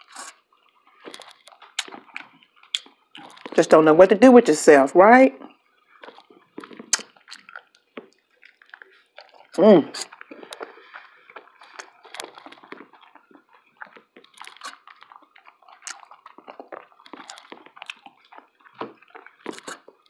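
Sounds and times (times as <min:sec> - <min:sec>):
mouth clicks and smacks: 0:00.0 - 0:03.6, 0:05.4 - 0:20.0
person chewing food: 0:00.0 - 0:03.6, 0:05.4 - 0:20.0.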